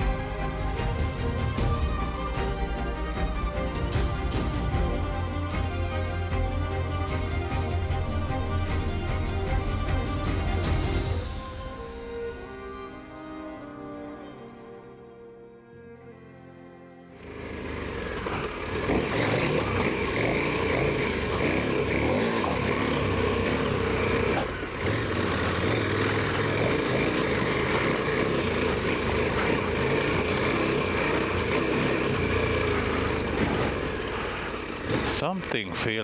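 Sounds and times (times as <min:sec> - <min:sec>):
motorcycle engine running: 0:00.0 - 0:12.1, 0:17.2 - 0:36.0
road noise: 0:00.0 - 0:13.8, 0:17.1 - 0:36.0.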